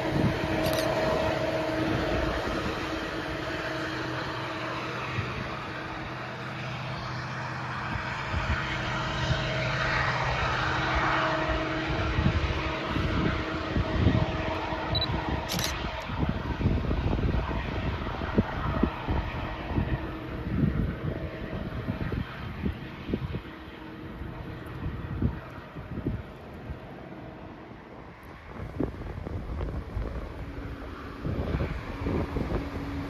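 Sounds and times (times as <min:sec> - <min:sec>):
locomotive engines droning: 0:00.0 - 0:33.0
wind buffeting microphone: 0:00.0 - 0:33.0.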